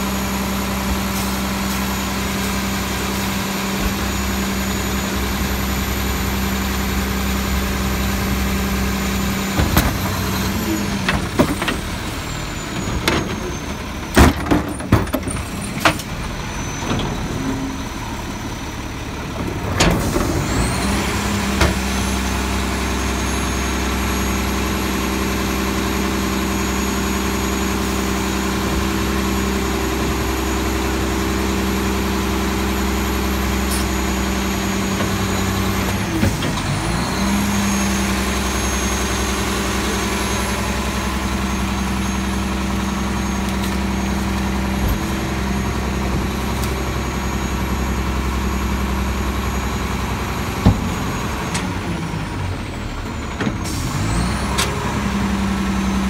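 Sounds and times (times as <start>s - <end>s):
garbage truck engine droning: 0.0s - 56.0s
hydraulic packer whine: 0.0s - 56.0s.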